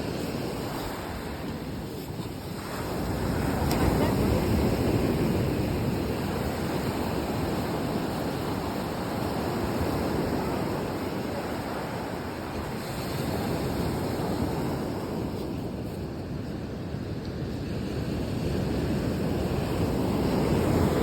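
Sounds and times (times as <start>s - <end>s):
ocean waves breaking: 0.0s - 15.5s, 17.8s - 21.0s.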